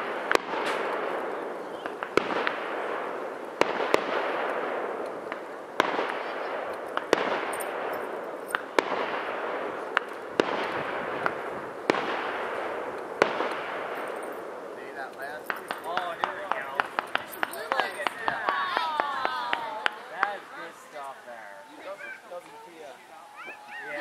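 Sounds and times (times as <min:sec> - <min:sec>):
fireworks bangs: 0:00.0 - 0:24.0
steady hiss: 0:00.0 - 0:24.0.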